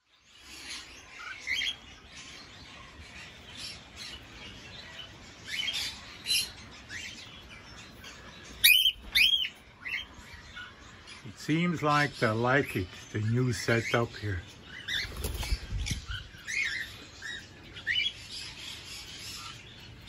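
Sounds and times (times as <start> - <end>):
cockatiels chirping and calling: 0.2 - 20.0.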